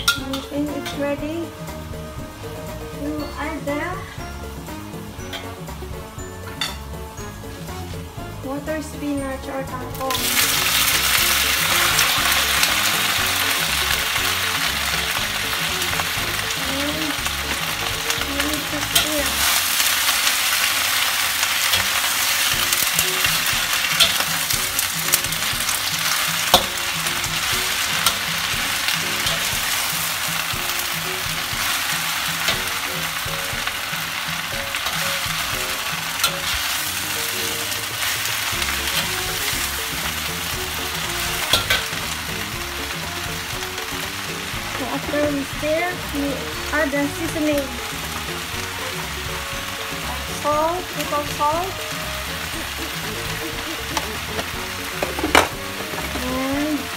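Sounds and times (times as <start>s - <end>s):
greens sizzling in hot oil: 0.0s - 56.9s.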